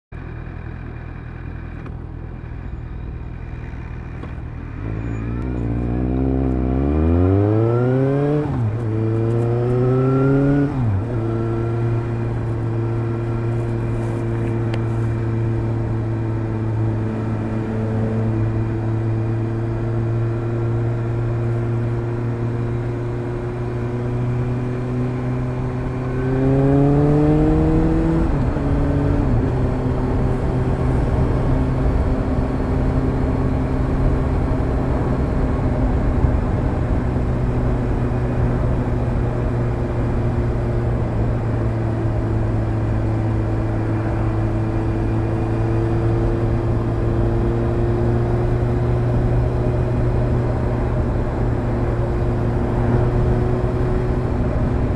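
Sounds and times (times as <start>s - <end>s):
motorcycle engine revving: 3.2s - 54.9s.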